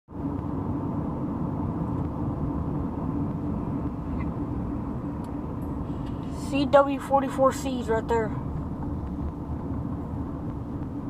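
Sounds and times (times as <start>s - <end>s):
steady hum: 0.1s - 11.0s
vehicle driving rumble: 0.1s - 11.0s.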